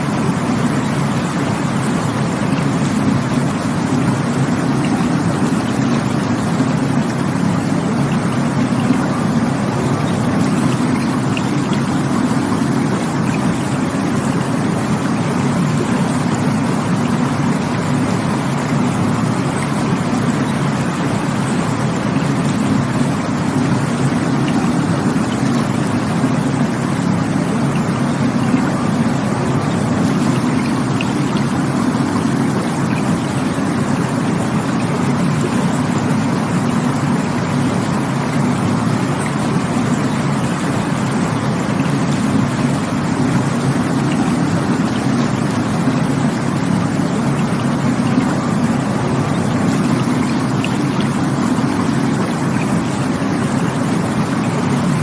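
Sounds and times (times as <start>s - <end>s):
rushing water roar: 0.0s - 55.0s.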